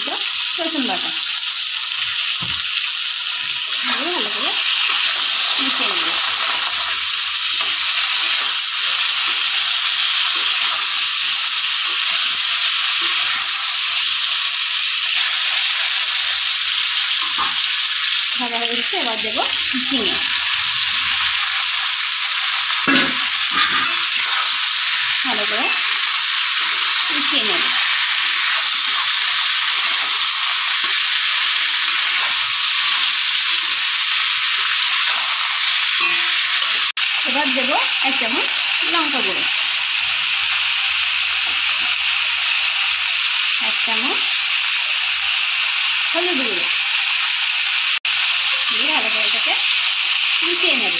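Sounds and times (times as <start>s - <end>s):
potatoes and onion sizzling in oil: 0.0s - 50.9s.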